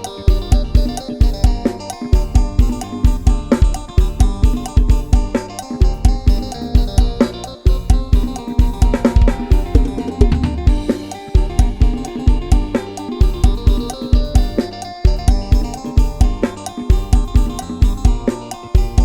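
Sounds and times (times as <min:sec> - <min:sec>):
bass: 0:00.0 - 0:19.0
drum kit beat: 0:00.0 - 0:19.0
sustained melodic line: 0:00.0 - 0:19.0.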